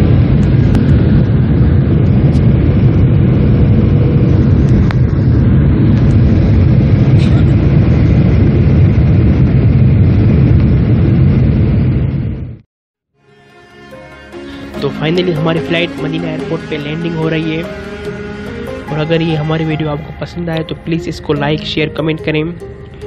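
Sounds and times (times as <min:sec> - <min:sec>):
jet engine cabin noise: 0:00.0 - 0:12.6, 0:13.4 - 0:23.0.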